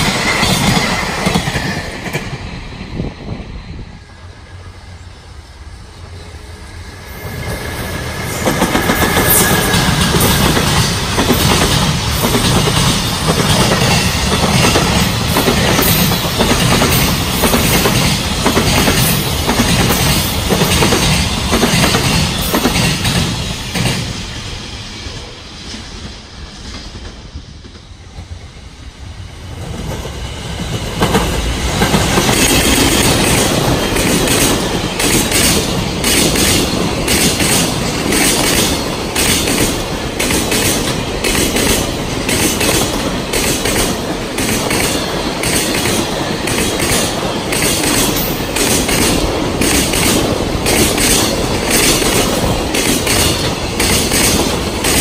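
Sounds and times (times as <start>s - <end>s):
freight train wheels clattering: 0.0s - 3.2s, 7.0s - 28.6s, 29.6s - 55.0s
second train rail clatter: 0.0s - 5.1s, 5.8s - 28.7s, 29.6s - 55.0s.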